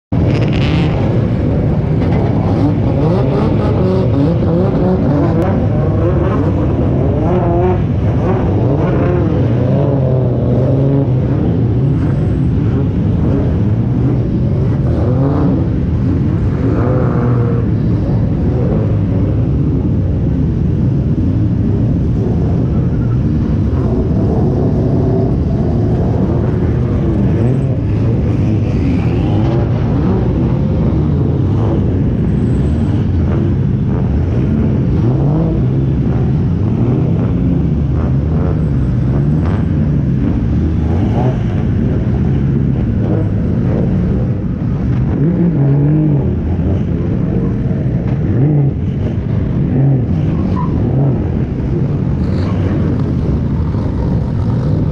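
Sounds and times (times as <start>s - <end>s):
car engines running at low revs: 0.1s - 54.9s.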